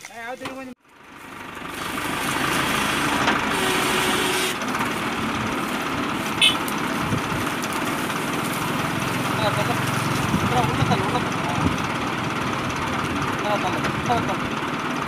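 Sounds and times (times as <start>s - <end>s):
tractor diesel engine running: 0.2s - 15.0s.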